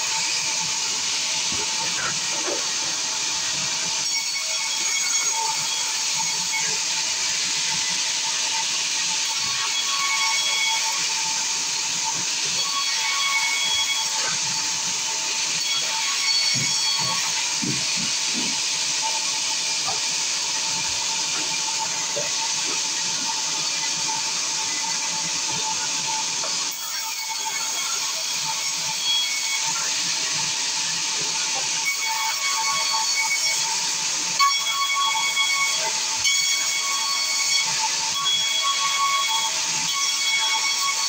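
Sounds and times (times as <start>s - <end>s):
band saw cutting timber: 0.0s - 41.0s.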